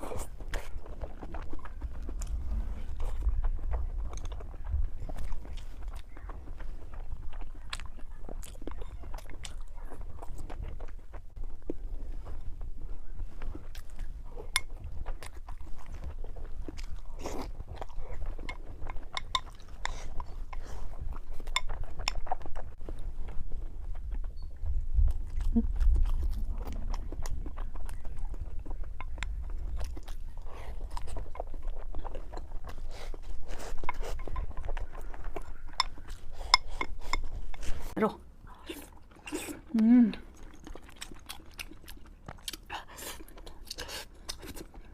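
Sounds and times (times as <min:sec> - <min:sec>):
chewing with wet mouth clicks: 0:00.0 - 0:44.9.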